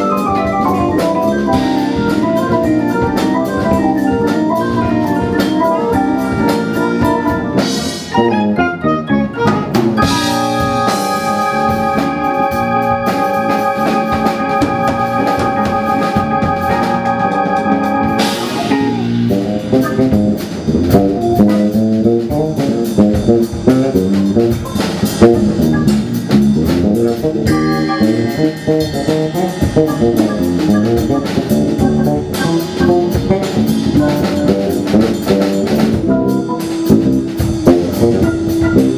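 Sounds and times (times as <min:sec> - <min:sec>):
jazz-funk band playing: 0:00.0 - 0:38.9.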